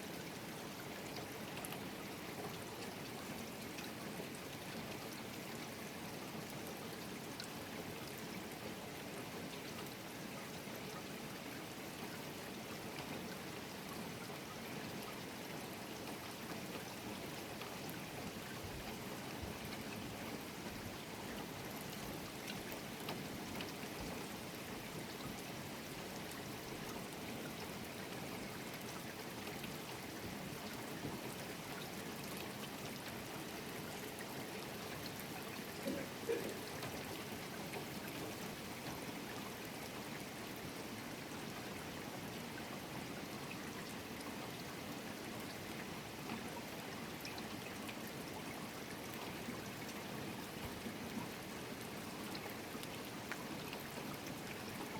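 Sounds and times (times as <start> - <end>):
dripping water ticks: 1.0 - 8.8, 10.9 - 54.9.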